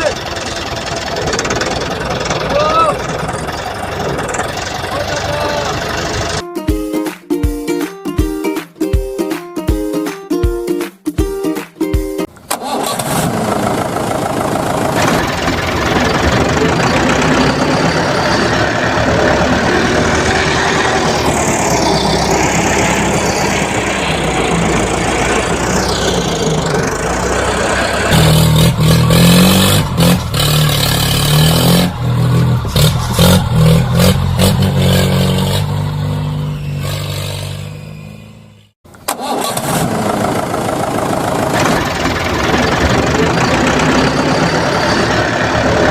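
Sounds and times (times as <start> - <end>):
tractor engine revving: 0.0 - 6.4, 12.2 - 45.9.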